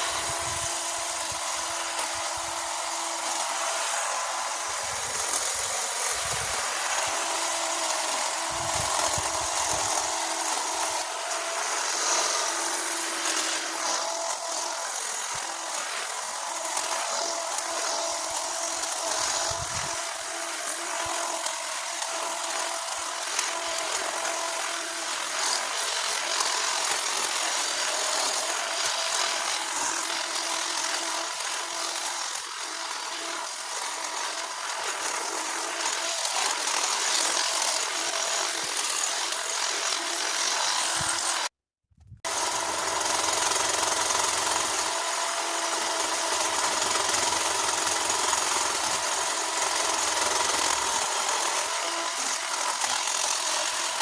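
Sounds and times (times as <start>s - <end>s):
power cutting tool whining: 0.0s - 54.0s.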